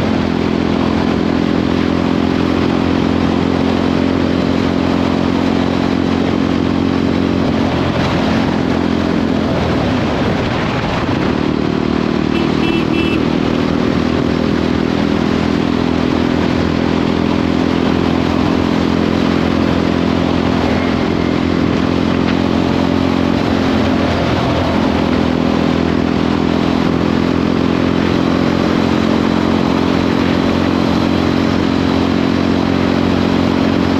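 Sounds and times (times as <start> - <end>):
motorcycle engine running: 0.0 - 33.9
road noise: 0.0 - 33.9
rushing wind: 0.0 - 33.9.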